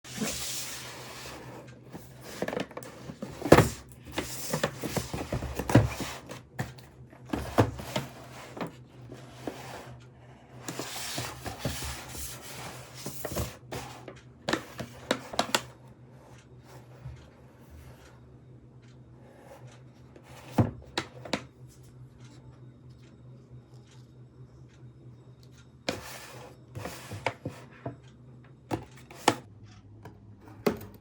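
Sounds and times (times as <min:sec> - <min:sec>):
faint steady hum: 0:00.1 - 0:31.0.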